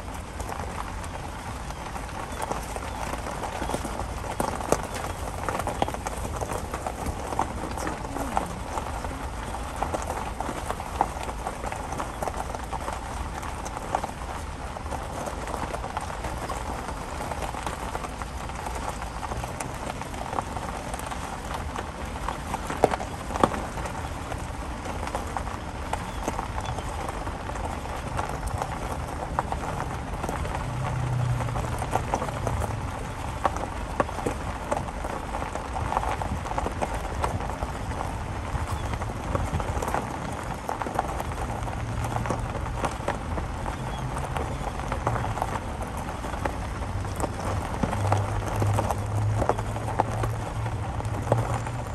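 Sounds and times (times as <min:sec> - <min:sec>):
footsteps on gravel: 0:00.0 - 0:51.9.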